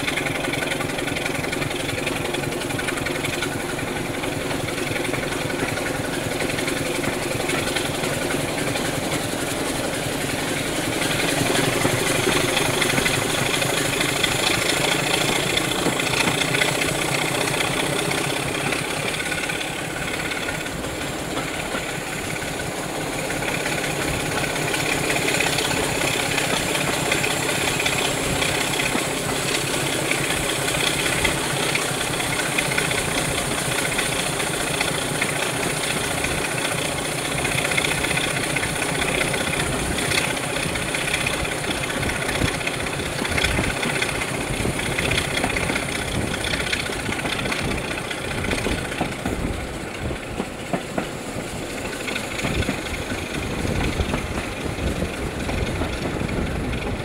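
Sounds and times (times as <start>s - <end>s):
diesel locomotive engine running: 0.0s - 57.0s
train rolling and rushing: 0.0s - 57.0s.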